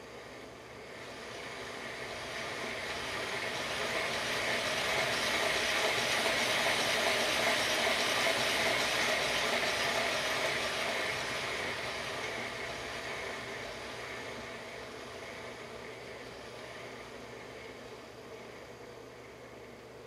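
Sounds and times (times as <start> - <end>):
model locomotive motor whirring: 0.8 - 19.9.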